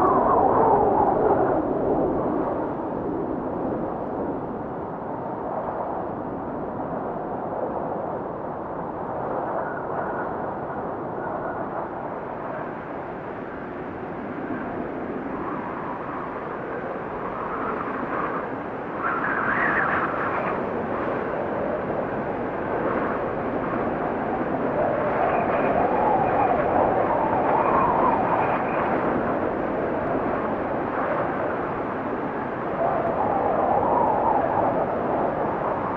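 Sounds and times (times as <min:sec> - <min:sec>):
wind blowing: 0:00.0 - 0:35.9.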